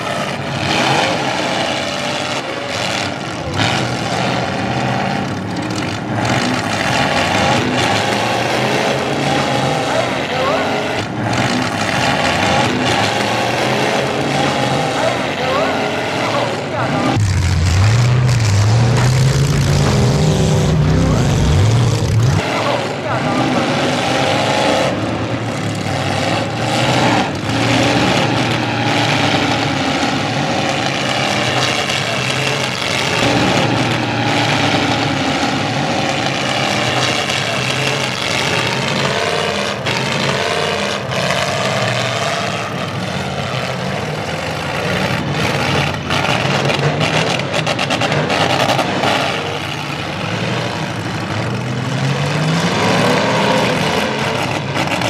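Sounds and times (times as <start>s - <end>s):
car engines revving: 0.0s - 55.0s
cars crashing: 0.0s - 55.0s.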